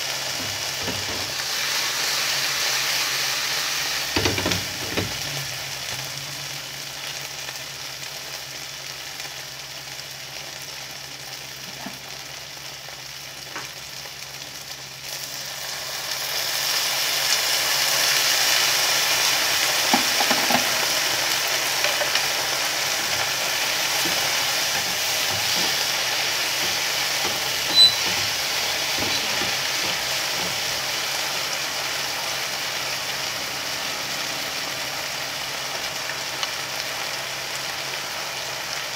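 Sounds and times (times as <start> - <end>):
vegetables sizzling in a frying pan: 0.0 - 38.9.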